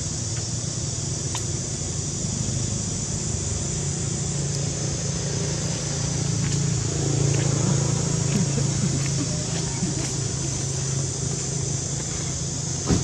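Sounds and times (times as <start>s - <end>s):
high-pitched hiss: 0.0s - 13.0s
low engine hum: 0.0s - 13.0s.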